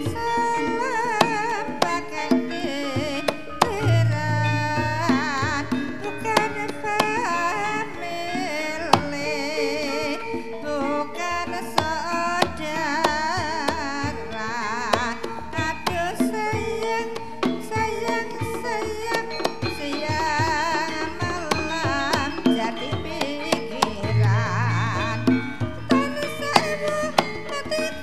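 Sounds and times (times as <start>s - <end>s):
gamelan music: 0.0s - 28.0s
hand drum strokes: 0.0s - 28.0s.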